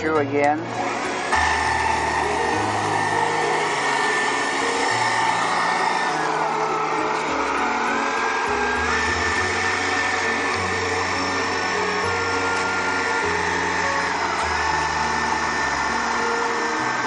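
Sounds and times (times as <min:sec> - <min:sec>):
background music: 0:00.0 - 0:17.0
small electric motors whining: 0:00.0 - 0:17.0.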